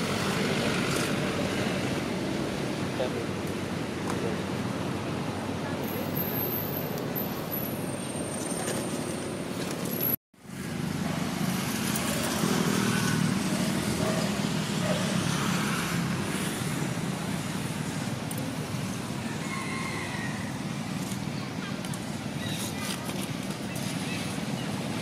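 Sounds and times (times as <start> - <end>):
distant road traffic rumble: 0.0 - 25.0.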